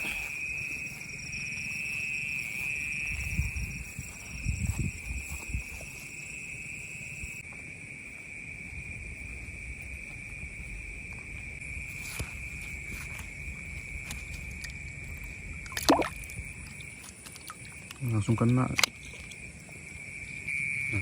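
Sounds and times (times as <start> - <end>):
night insect chorus: 0.0 - 21.0.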